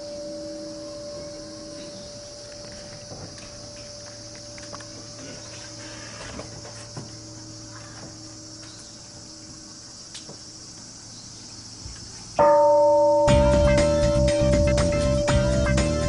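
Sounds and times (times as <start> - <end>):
loud ringing tone: 0.0 - 9.6, 12.4 - 16.0
faint hum: 0.0 - 16.0
insects chirring: 0.0 - 16.0.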